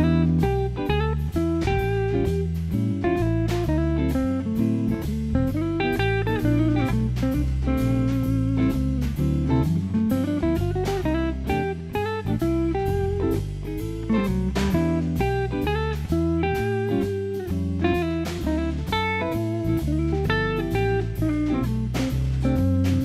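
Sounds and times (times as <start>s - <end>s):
guitar-led instrumental music: 0.0s - 23.0s.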